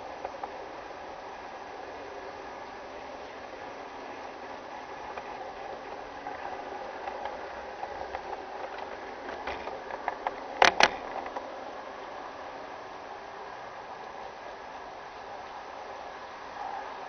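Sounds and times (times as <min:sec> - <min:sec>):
model train whirring: 0:00.0 - 0:17.0
wheels clicking on rail joints: 0:00.0 - 0:17.0.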